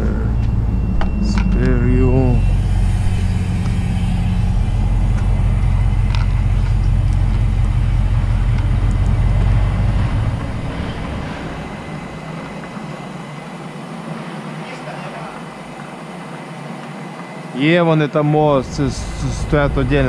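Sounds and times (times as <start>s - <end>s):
vehicle engine idling: 0.0s - 16.7s, 17.7s - 20.0s.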